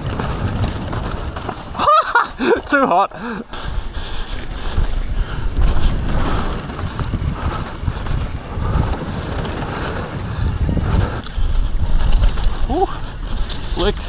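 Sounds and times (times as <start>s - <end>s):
low rumble of bike ride: 0.0s - 14.0s
wind buffeting microphone: 0.0s - 14.0s.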